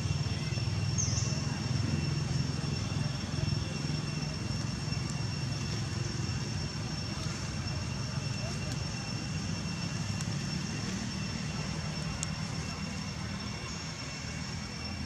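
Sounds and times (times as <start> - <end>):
high-pitched whine: 0.0 - 15.0
motor vehicle engine hum: 0.0 - 15.0.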